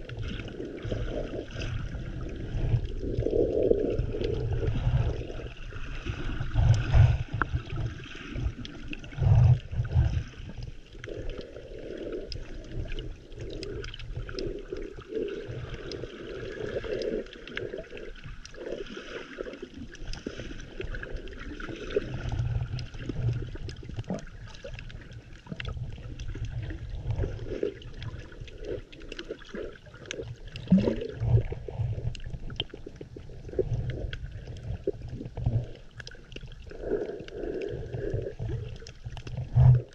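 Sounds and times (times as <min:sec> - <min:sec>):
underwater water sloshing: 0:00.0 - 0:39.9.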